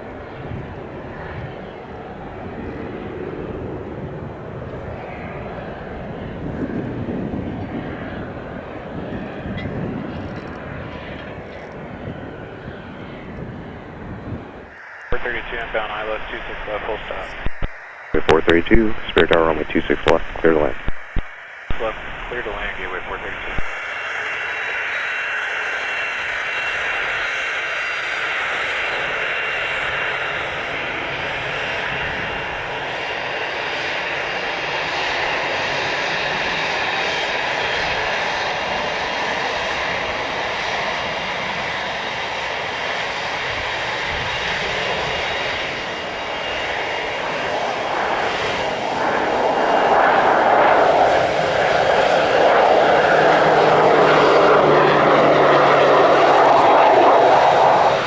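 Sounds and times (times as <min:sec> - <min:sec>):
turboprop engine running: 0:00.0 - 0:58.0.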